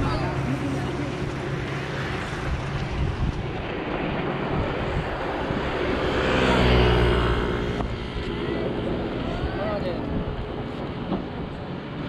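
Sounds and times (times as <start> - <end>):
motor scooter passing by: 0.0 - 10.7
wind rumble on microphone: 0.0 - 12.0.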